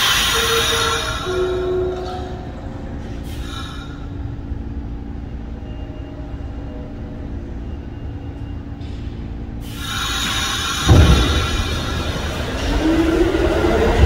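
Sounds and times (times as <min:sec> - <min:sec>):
subway train rumble: 0:00.0 - 0:14.0
train rushing noise: 0:00.0 - 0:14.0.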